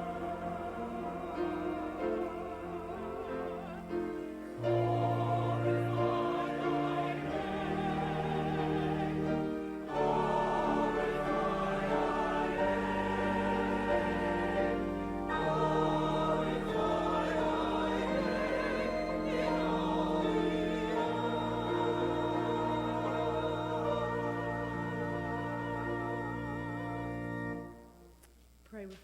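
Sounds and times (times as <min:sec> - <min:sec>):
choir singing a hymn: 0:00.0 - 0:27.9
instrumental accompaniment: 0:00.0 - 0:28.3.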